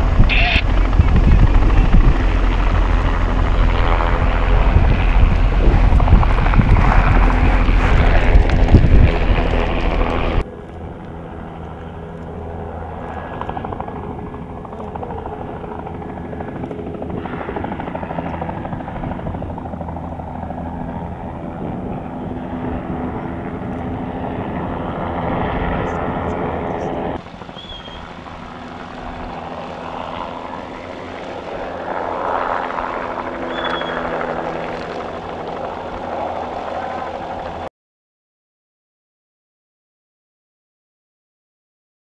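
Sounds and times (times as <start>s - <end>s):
helicopter rotor and engine: 0.0s - 37.7s
wind: 0.0s - 37.7s.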